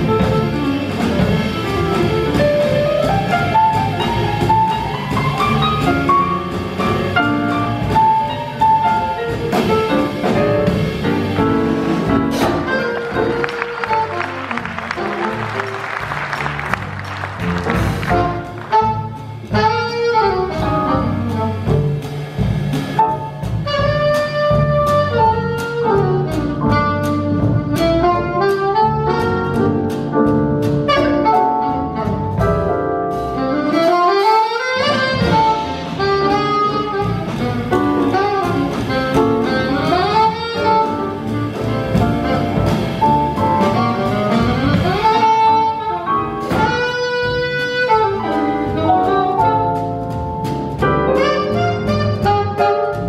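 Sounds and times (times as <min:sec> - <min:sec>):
drums with ride cymbal: 0:00.0 - 0:13.8, 0:16.0 - 0:53.0
alto saxophone soloing: 0:00.0 - 0:22.1, 0:23.4 - 0:30.1, 0:30.7 - 0:53.0
double bass: 0:00.0 - 0:53.0
piano: 0:00.0 - 0:53.0.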